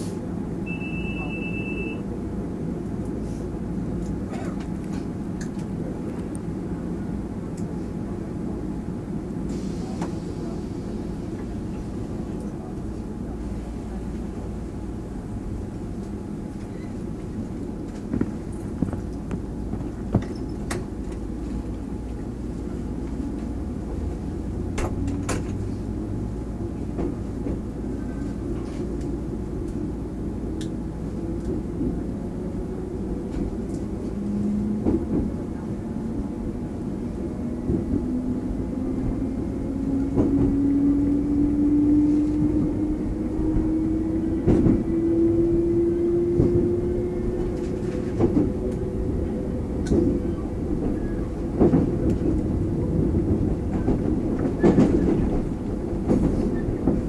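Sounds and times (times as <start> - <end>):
train rumble on board: 0.0 - 57.0.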